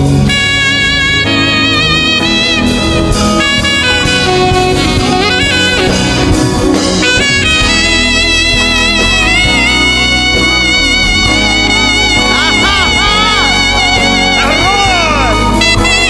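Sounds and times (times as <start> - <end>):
gospel band playing: 0.0 - 16.0
saxophone solo: 0.0 - 16.0.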